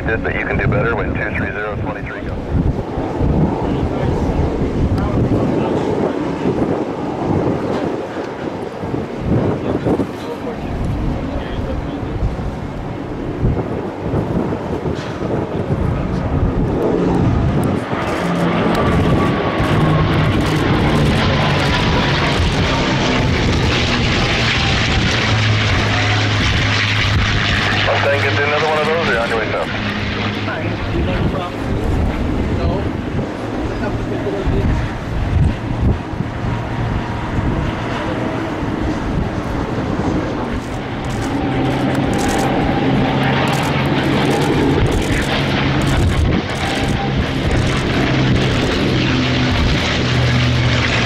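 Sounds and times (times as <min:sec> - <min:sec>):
propeller plane engine roaring: 0:00.0 - 0:51.0.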